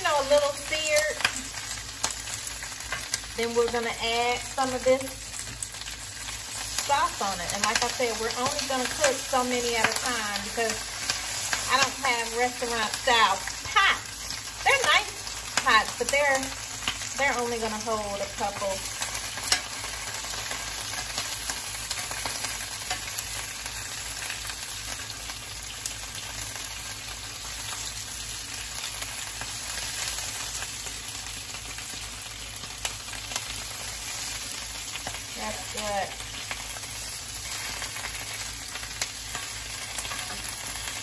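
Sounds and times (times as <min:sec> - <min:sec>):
vegetables sizzling in a skillet: 0:00.0 - 0:41.0.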